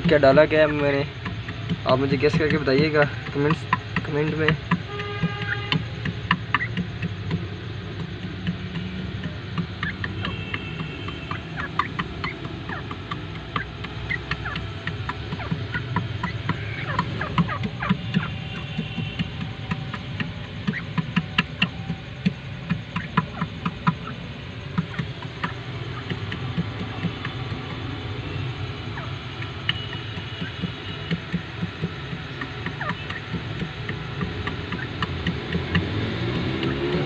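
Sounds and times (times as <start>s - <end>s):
birds pecking at a bowl: 0.0s - 37.0s.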